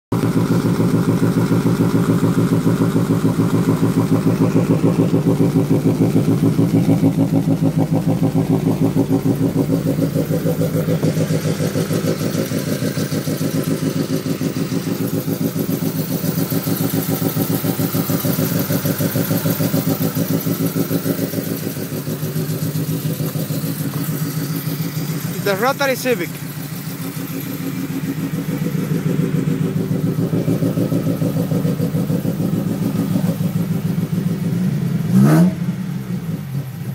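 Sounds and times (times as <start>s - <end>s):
car engine idling roughly: 0.1s - 35.1s.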